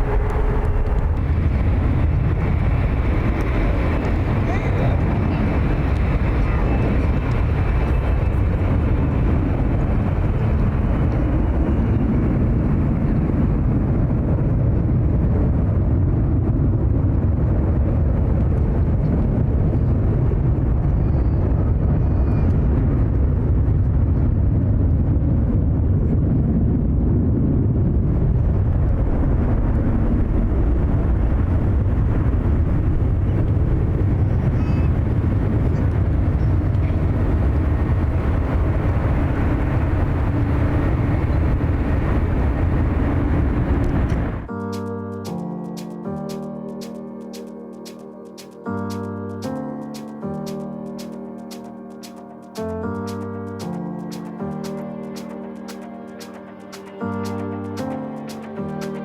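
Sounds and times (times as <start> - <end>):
jet engine noise: 0.0 - 59.0.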